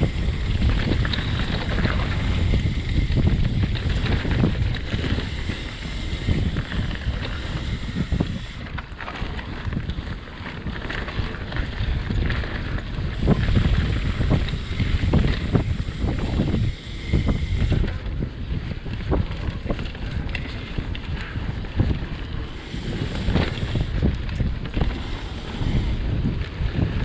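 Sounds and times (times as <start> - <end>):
bike rattling over rough ground: 0.0 - 27.0
wind buffeting microphone: 0.0 - 27.0.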